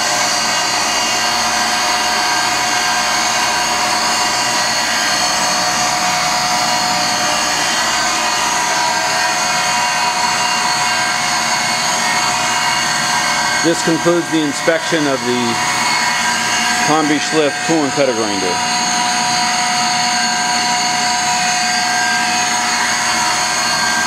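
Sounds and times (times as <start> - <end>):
grinder motor whine: 0.0 - 24.0.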